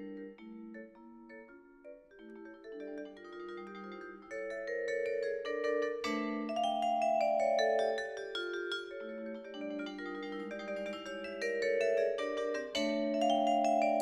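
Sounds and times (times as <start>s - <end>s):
mallet percussion melody: 0.0s - 14.0s.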